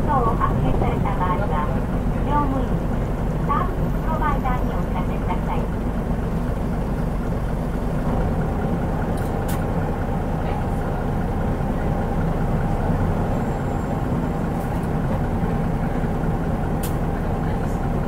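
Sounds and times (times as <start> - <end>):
bus diesel engine rumbling: 0.0 - 18.0.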